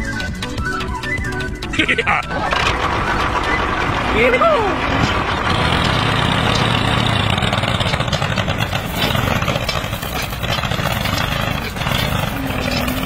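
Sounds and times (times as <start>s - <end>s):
tractor engine chugging: 0.0s - 13.0s.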